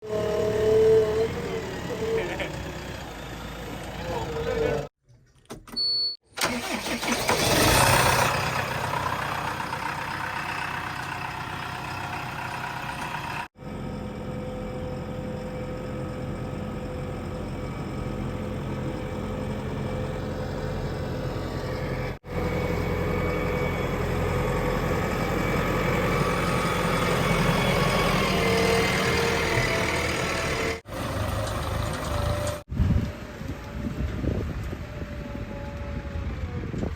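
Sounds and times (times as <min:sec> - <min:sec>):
diesel engine running: 0:00.0 - 0:04.9, 0:06.4 - 0:36.9.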